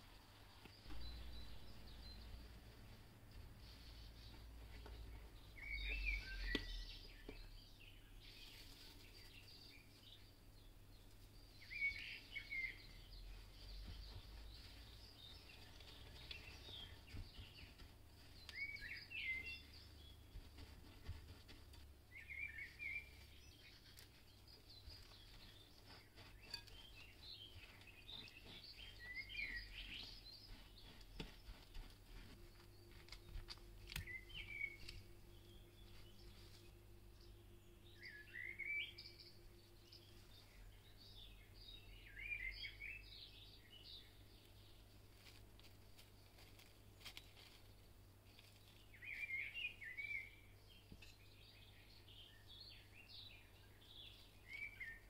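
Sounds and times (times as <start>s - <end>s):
faint bird chirps: 0.8s - 2.6s, 3.6s - 10.3s, 11.0s - 17.6s, 18.4s - 20.2s, 22.1s - 31.5s, 32.2s - 44.8s, 48.7s - 55.0s.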